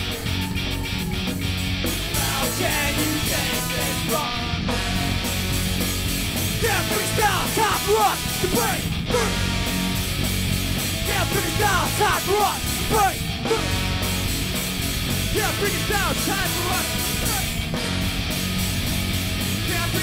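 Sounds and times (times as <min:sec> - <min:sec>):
punk rock band playing: 0:00.0 - 0:20.0
trumpets playing: 0:02.1 - 0:18.2.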